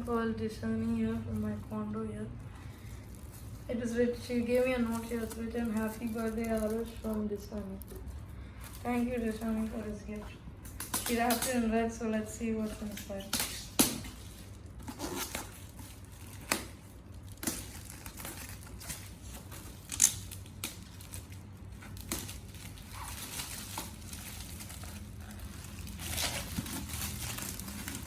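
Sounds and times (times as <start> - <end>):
wrapping paper tearing and crumpling: 2.6 - 10.1, 12.4 - 28.0.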